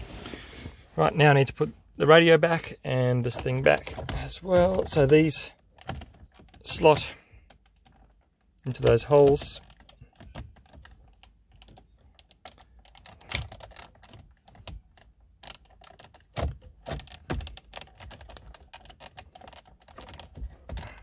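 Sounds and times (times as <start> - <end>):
plastic trim clicks and rattles: 3.1 - 21.0.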